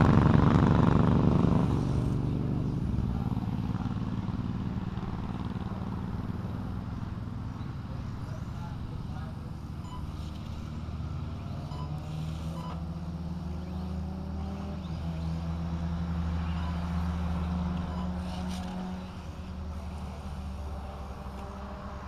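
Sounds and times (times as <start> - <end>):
small engines revving: 0.0 - 22.0.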